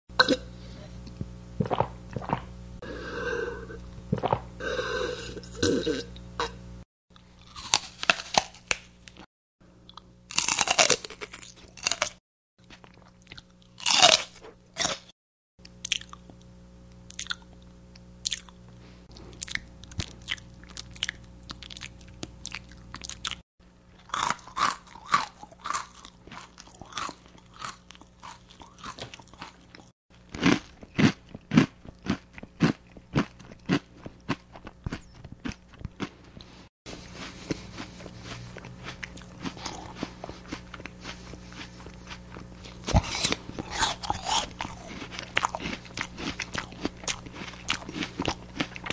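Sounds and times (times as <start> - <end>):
crunchy chewing and bites: 7.2 - 9.3, 9.9 - 48.9.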